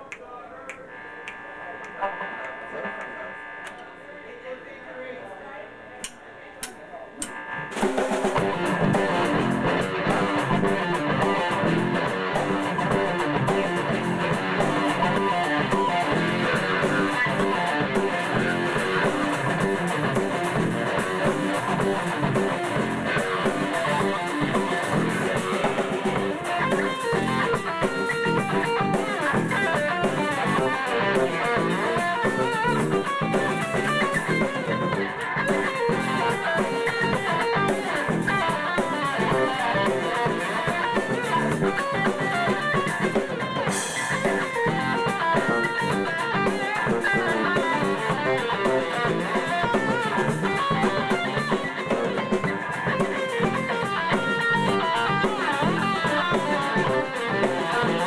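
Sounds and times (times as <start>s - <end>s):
electric guitar: 0.7s - 4.1s, 7.2s - 58.0s
drum kit: 6.0s - 58.0s
electric bass: 7.6s - 58.0s.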